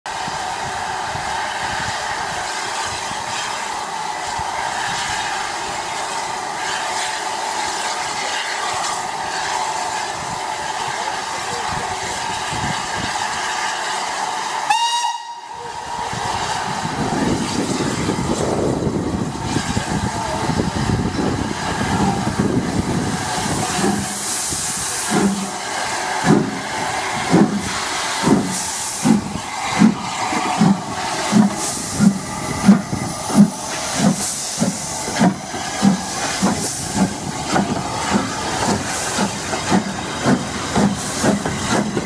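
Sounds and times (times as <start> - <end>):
steam hiss with high tone: 0.1 - 42.0
steam locomotive chuffing: 0.1 - 42.0.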